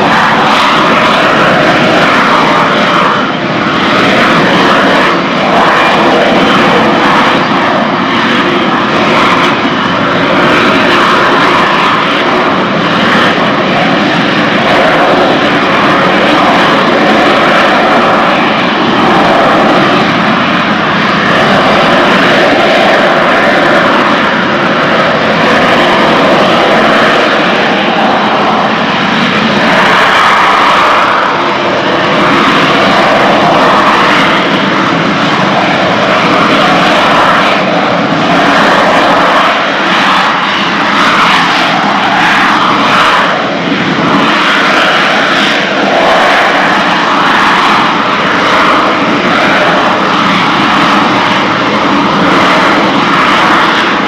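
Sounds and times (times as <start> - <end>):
jet engine hovering with whine: 0.0 - 54.0.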